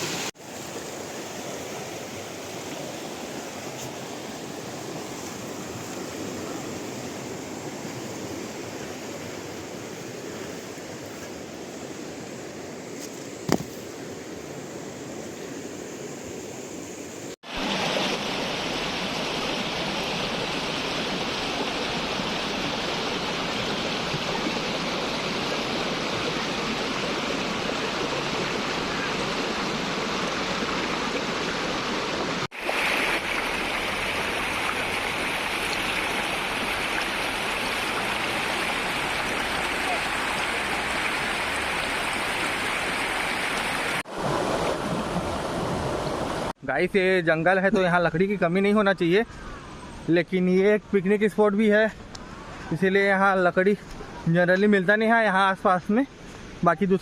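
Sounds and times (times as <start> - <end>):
flowing river water: 0.0 - 57.0.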